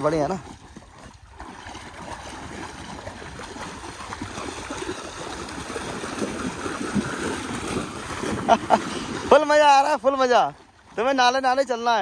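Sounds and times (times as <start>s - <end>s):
dogs splashing through water: 0.0s - 12.0s.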